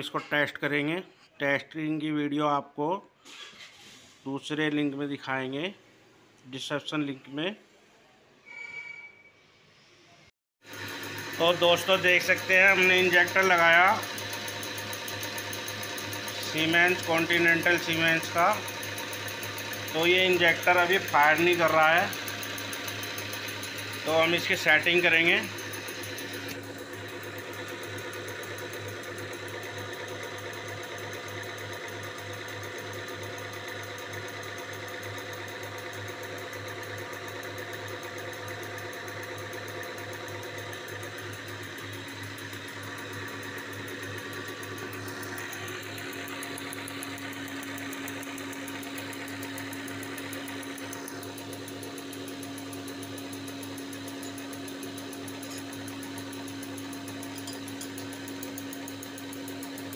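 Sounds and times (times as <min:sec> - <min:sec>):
test bench mechanical hum: 0:10.6 - 0:59.9.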